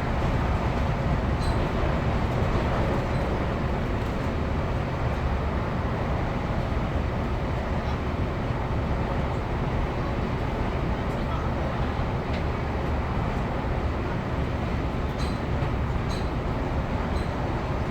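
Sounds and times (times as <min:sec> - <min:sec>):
diesel train rumbling: 0:00.0 - 0:17.9.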